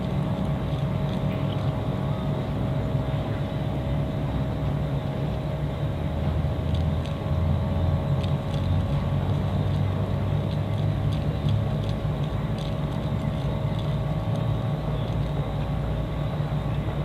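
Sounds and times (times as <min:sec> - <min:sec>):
boat engine drone: 0:00.0 - 0:17.0
faint steady whine: 0:00.0 - 0:17.0.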